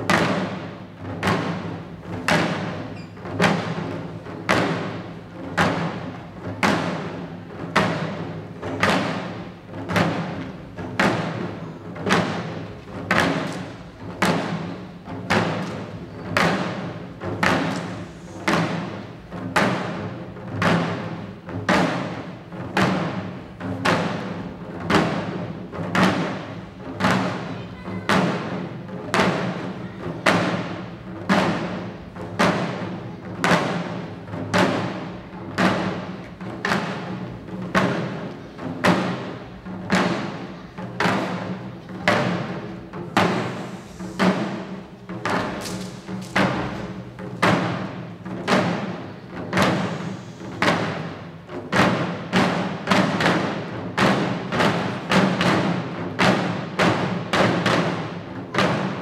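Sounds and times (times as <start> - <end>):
small drums beating: 0.0 - 59.0.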